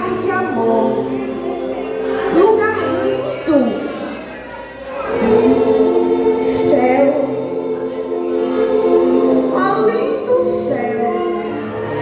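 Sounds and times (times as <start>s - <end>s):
vocal group singing in harmony: 0.0s - 12.0s.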